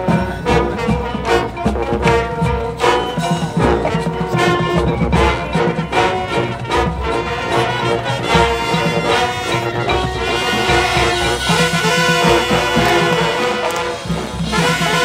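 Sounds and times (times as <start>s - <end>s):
brass section sustaining chords: 0.0s - 15.0s
drumline beat: 0.0s - 15.0s.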